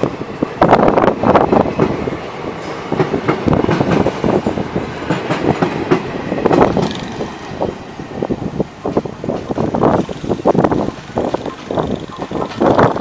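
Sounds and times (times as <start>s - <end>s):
train rumble: 0.0s - 13.0s
train wheels clattering over rail joints: 0.6s - 7.8s, 8.4s - 13.0s.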